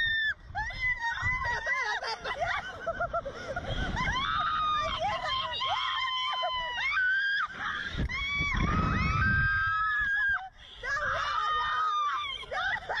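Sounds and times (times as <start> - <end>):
women screaming: 0.0 - 13.0.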